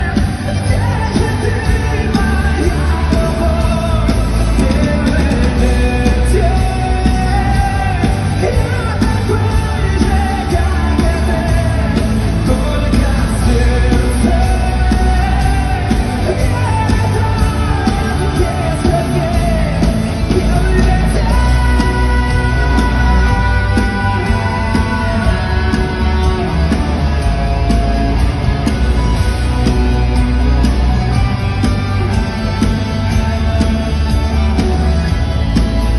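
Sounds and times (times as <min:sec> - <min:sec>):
live rock-pop music: 0:00.0 - 0:35.9.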